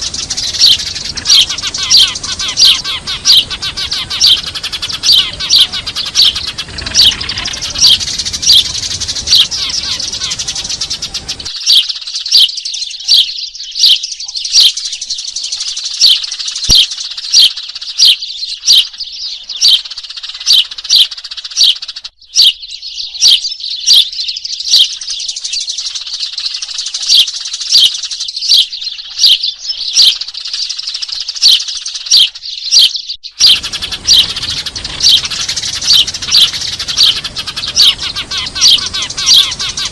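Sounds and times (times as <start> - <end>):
flock of sparrows twittering: 0.0 - 39.9
sparrow loud falling chirp: 0.0 - 39.9.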